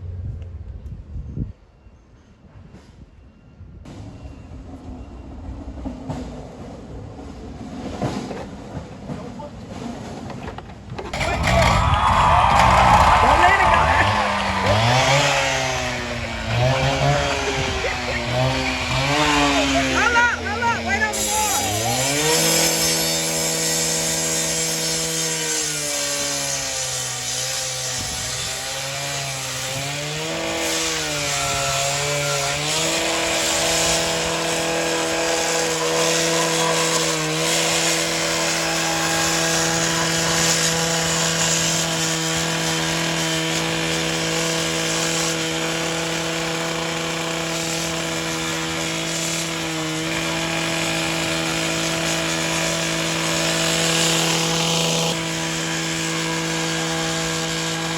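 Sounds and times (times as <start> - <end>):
concrete saw engine running: 11.1 - 57.9.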